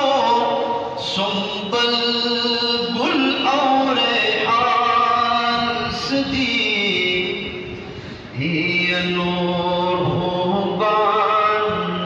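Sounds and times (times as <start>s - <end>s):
man singing unaccompanied: 0.0s - 7.7s, 8.3s - 12.0s.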